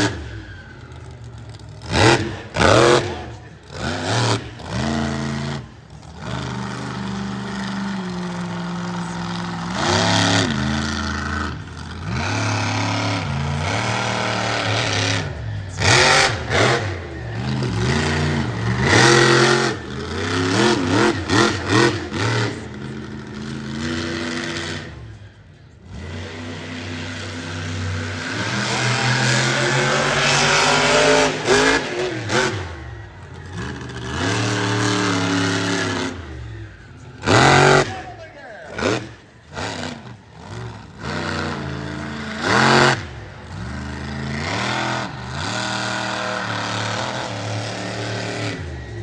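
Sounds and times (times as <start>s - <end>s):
truck engine revving: 0.0s - 49.0s.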